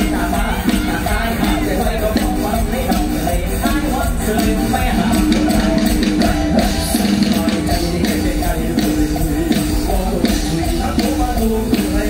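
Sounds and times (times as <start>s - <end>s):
live band music over loudspeakers: 0.0s - 12.0s
men singing: 0.0s - 12.0s.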